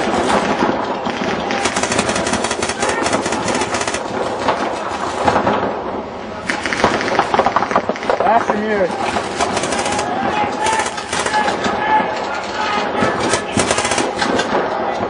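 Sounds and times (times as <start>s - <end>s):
paintball markers firing rapidly: 0.0s - 5.4s, 6.5s - 14.8s.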